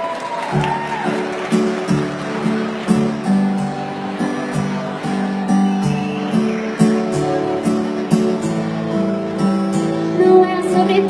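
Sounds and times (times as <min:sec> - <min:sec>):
acoustic guitar strumming chords: 0:00.5 - 0:11.0.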